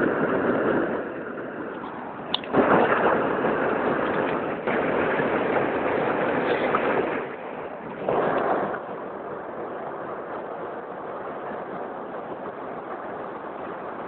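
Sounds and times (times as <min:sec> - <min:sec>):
strong wind roaring: 0:00.0 - 0:14.0.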